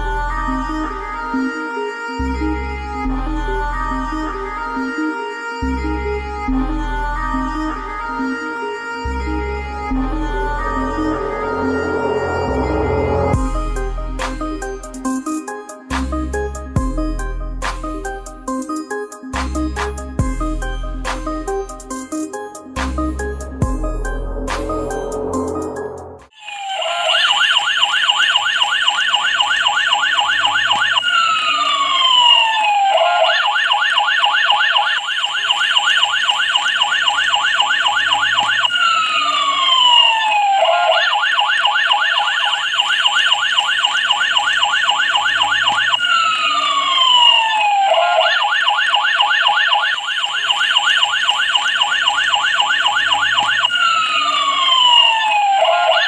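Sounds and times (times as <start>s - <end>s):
electronic siren warbling and whooping: 0.0s - 13.8s, 23.6s - 56.0s.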